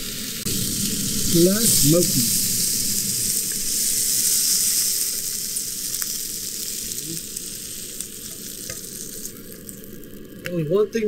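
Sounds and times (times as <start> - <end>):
sausages sizzling in a frying pan: 0.0 - 11.0.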